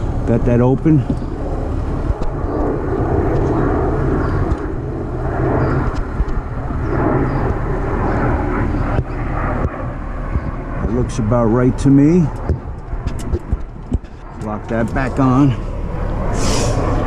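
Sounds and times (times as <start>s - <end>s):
engine-like drone: 0.0s - 17.0s.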